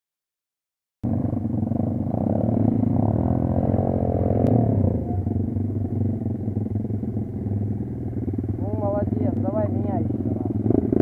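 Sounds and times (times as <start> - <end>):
dirt bike engine revving: 1.1 - 11.0.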